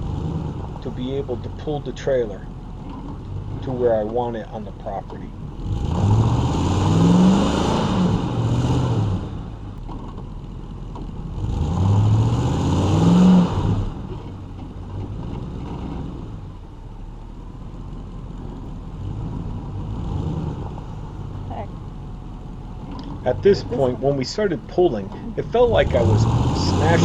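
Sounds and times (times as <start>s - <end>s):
truck engines revving under load: 0.0s - 16.6s, 18.3s - 27.0s.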